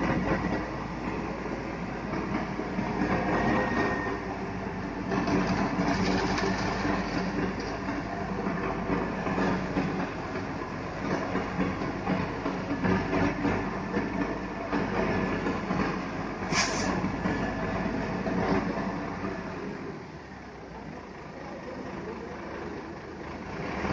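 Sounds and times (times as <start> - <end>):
concrete mixer truck running: 0.0 - 23.9.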